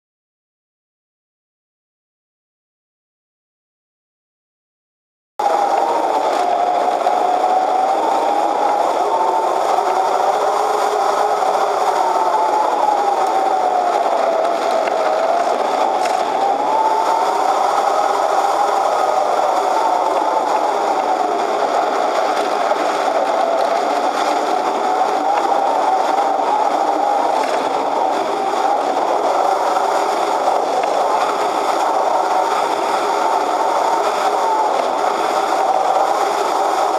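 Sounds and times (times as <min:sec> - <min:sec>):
electric motor and propeller whining: 0:05.4 - 0:36.9
steady air rush: 0:05.4 - 0:36.9.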